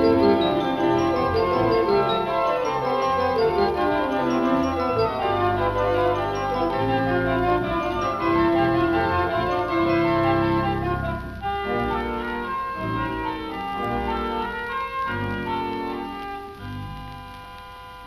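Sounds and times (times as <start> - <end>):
theatre organ playing: 0.0 - 18.0.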